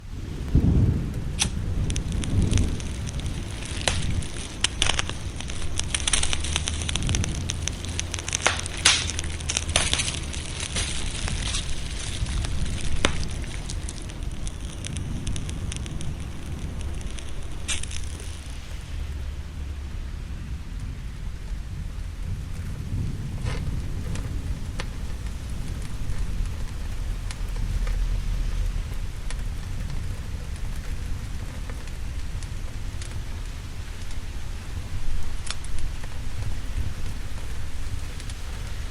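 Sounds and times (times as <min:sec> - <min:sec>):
low rumble of thunder: 0:00.0 - 0:38.9
steady rain: 0:00.0 - 0:38.9
wood fire crackling and popping: 0:00.0 - 0:38.9.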